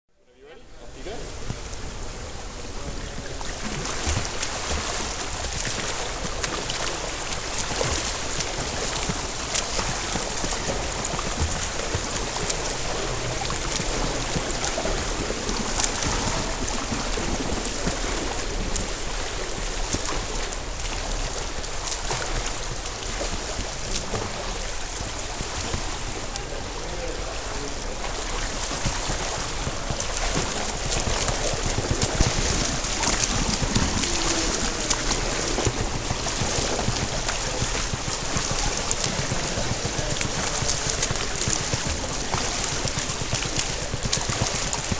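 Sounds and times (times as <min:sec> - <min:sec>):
underwater water churning: 0:01.2 - 0:44.9.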